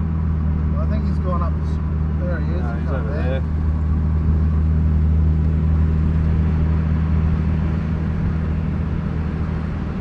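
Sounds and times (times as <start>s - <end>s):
car engine running at low revs: 0.0s - 10.0s.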